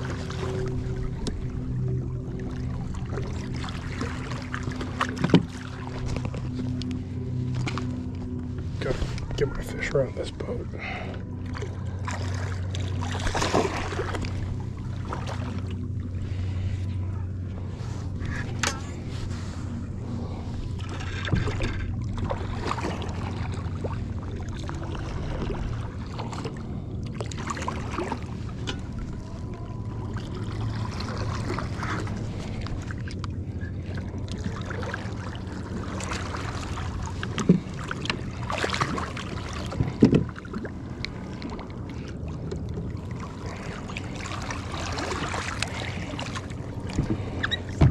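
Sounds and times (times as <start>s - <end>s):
steady low hum: 0.0s - 47.9s
water lapping and splashing: 0.0s - 47.9s.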